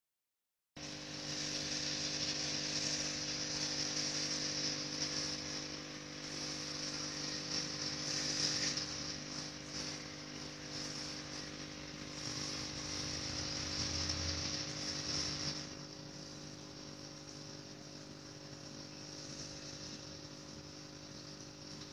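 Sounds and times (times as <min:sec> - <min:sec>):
electrical mains hum: 0:00.8 - 0:21.9
high hiss: 0:00.8 - 0:21.9.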